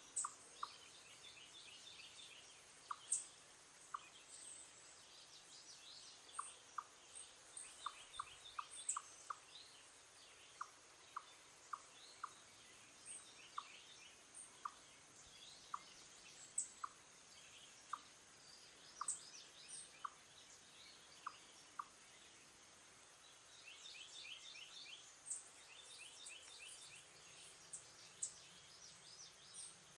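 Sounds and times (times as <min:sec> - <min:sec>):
high twittering birdsong: 0:00.0 - 0:30.0.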